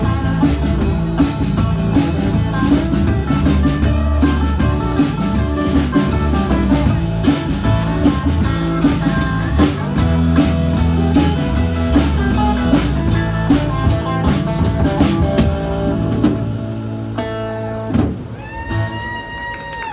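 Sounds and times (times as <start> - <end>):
drum kit: 0.0 - 19.2
guitar: 0.0 - 19.9.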